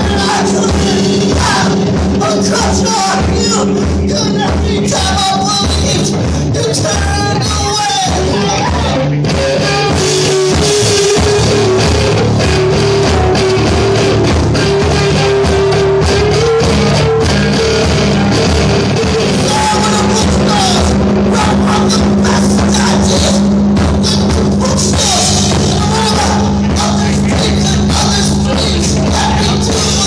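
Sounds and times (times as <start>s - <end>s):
bass guitar: 0.0s - 30.0s
drum kit: 0.0s - 30.0s
electric guitar: 0.0s - 30.0s.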